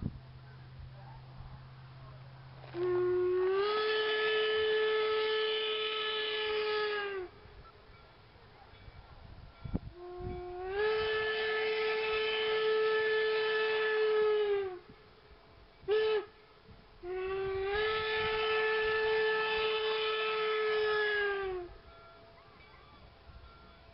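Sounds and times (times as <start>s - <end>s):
steam locomotive whistle: 2.6s - 8.0s, 9.6s - 23.9s.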